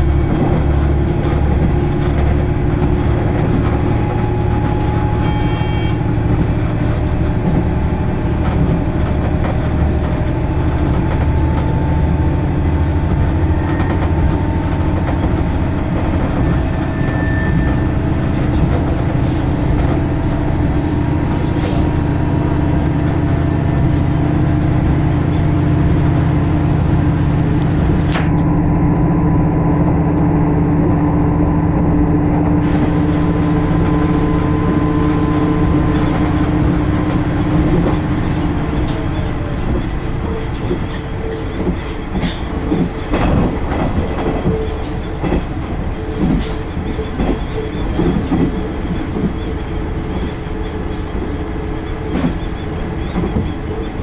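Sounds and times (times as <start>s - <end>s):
wheels running on rails: 0.0s - 28.4s, 32.3s - 54.0s
diesel railcar engine drone: 0.0s - 54.0s.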